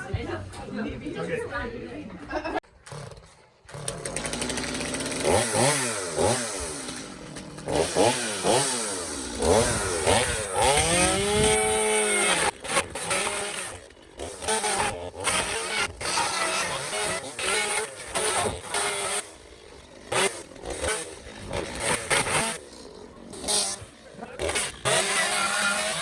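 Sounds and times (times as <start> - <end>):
small petrol engine revving: 2.8 - 26.0.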